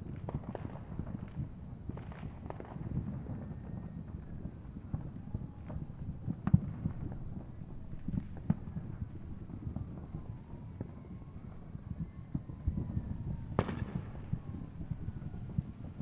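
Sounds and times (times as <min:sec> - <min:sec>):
distant fireworks popping: 0:00.0 - 0:16.0.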